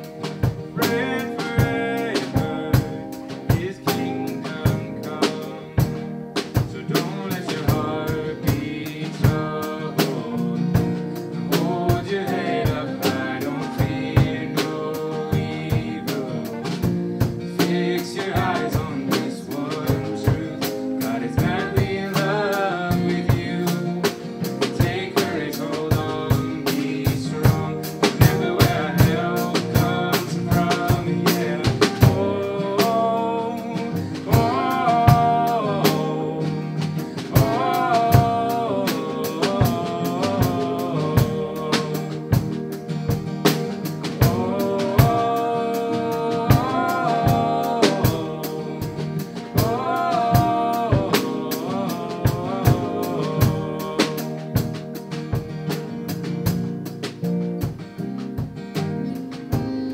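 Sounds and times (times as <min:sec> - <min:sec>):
voices singing: 0:00.0 - 0:56.2
drum kit: 0:00.0 - 0:59.9
guitars: 0:00.0 - 0:59.9
keyboard: 0:00.0 - 0:59.9.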